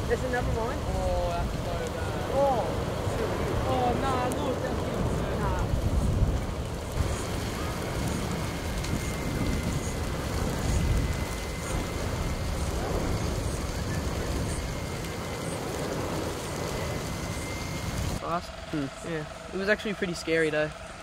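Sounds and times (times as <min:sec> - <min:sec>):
flames burning vegetation: 0:00.0 - 0:21.0.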